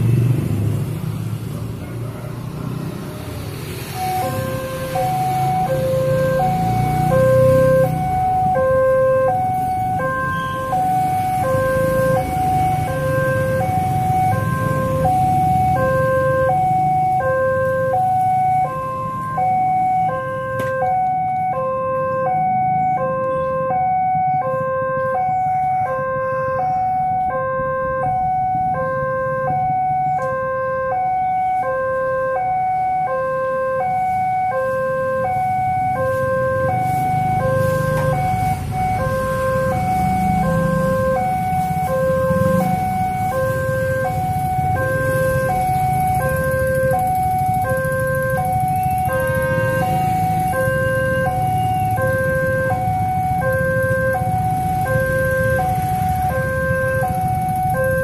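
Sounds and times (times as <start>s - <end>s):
motorbike engine rumble: 0.0s - 58.0s
level crossing two-tone alarm: 3.9s - 58.0s.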